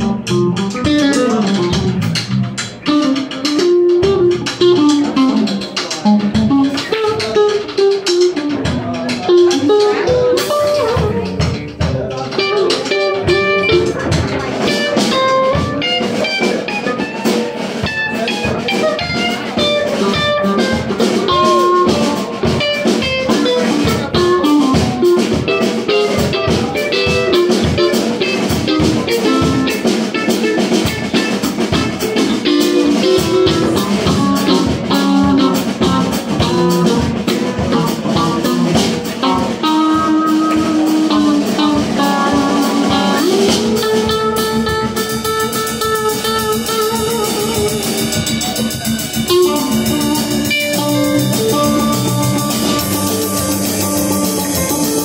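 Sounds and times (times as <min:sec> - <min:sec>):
drum kit: 0:00.0 - 0:55.0
electric bass: 0:00.0 - 0:55.0
electric guitar picking: 0:00.0 - 0:55.0.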